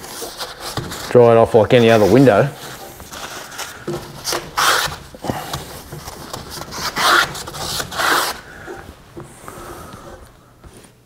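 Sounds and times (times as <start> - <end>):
paper towel wiping glass: 0.0 - 11.0.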